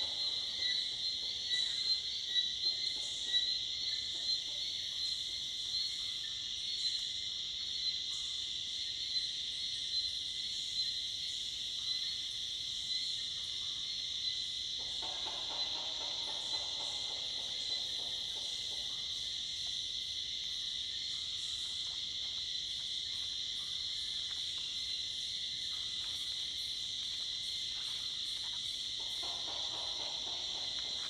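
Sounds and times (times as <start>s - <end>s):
cicadas and crickets droning: 0.0s - 31.0s.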